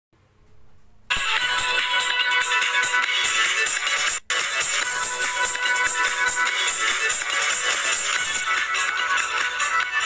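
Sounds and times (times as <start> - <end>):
sped-up background music: 1.1 - 10.0.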